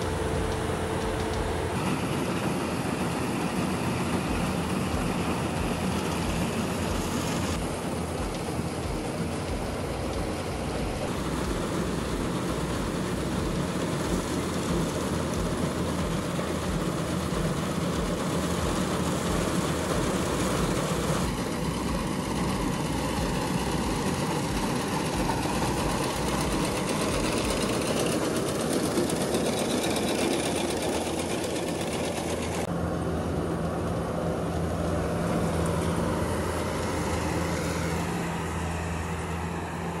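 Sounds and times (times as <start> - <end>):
diesel farm machinery running: 0.0 - 40.0.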